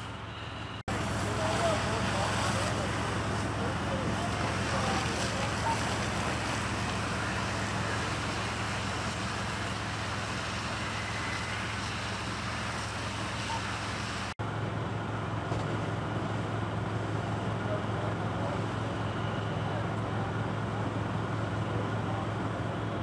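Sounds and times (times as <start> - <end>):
fire engine running: 0.0 - 23.0.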